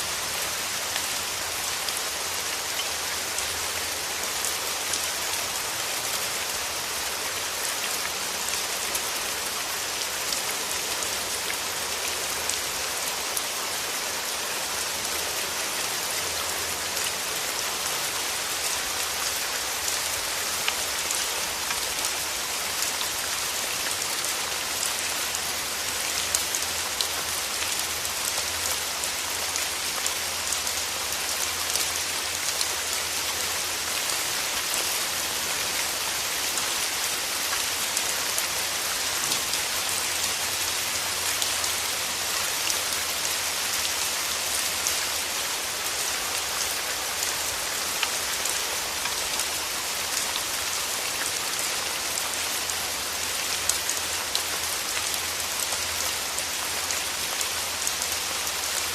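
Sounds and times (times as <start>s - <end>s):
rain falling through trees: 0.0s - 58.9s.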